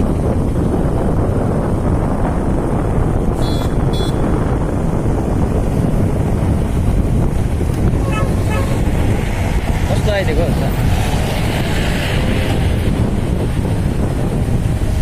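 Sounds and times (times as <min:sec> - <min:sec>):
motorcycle road noise: 0:00.0 - 0:15.0
wind buffeting microphone: 0:00.0 - 0:15.0.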